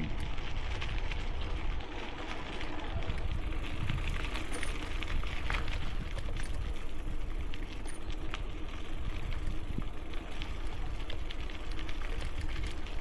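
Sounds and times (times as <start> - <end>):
bicycle tyres crunching on gravel: 0.0 - 13.0
small clicks and rattles: 0.0 - 13.0
wind rumble on microphone: 0.0 - 13.0.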